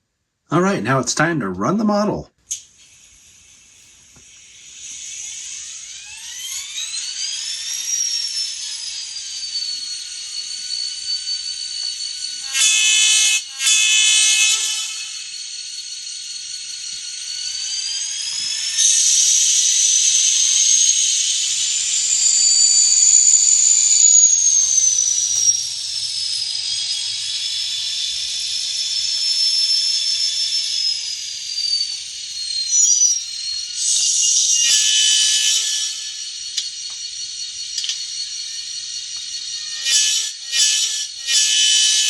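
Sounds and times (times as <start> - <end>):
model locomotive whine: 2.5 - 42.0.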